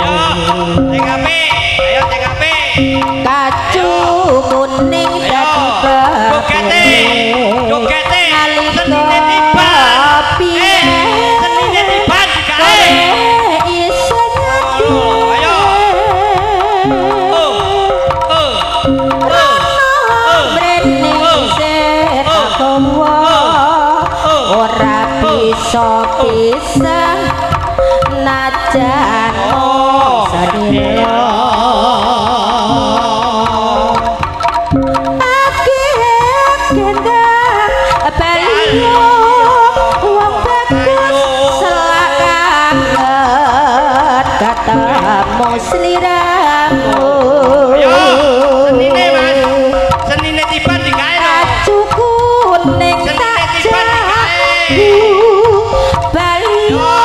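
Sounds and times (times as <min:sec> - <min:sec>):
hand drums: 0:00.0 - 0:57.0
held gamelan tones: 0:00.0 - 0:57.0
wavering vibrato lead melody: 0:00.0 - 0:57.0.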